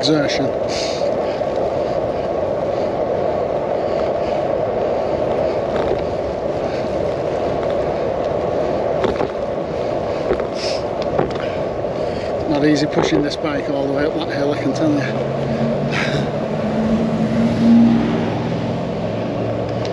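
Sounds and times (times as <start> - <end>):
rushing noise on camera microphone: 0.0 - 19.9.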